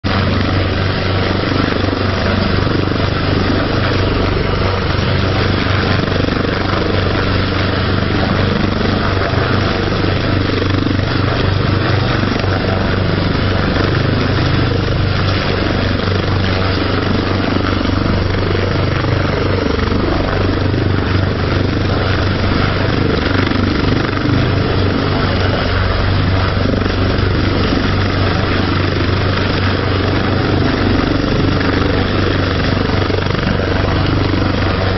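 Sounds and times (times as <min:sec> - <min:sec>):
helicopter hovering: 0:00.0 - 0:34.9
constant low hum: 0:00.1 - 0:34.9.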